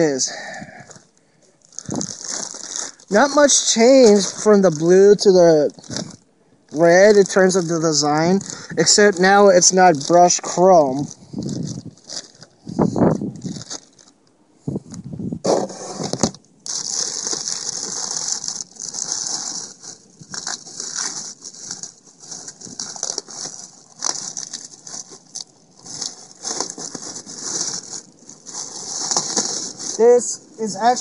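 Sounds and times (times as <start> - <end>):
plastic and cardboard rustling: 0.8 - 31.0.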